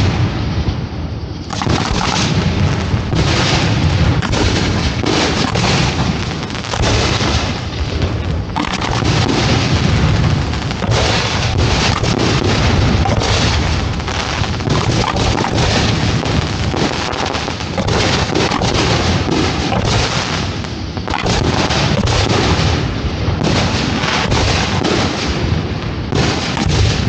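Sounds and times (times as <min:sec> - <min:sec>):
fireworks booming and popping: 0:00.0 - 0:27.0.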